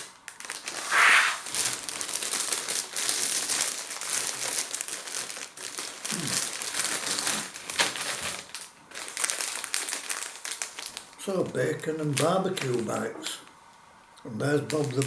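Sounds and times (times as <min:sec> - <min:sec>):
crisp packet crinkling: 0:00.0 - 0:11.3, 0:11.9 - 0:13.1, 0:14.5 - 0:15.0.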